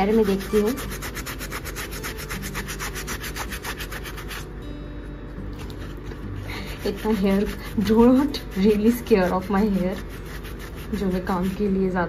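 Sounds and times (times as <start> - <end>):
sponge rasping on skin: 0.0 - 4.6, 5.6 - 11.8.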